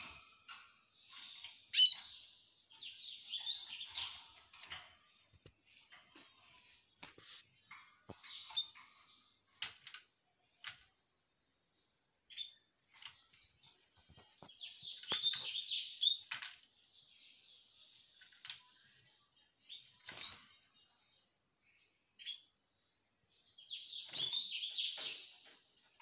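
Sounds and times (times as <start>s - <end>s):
canaries chirping: 0.0s - 26.0s.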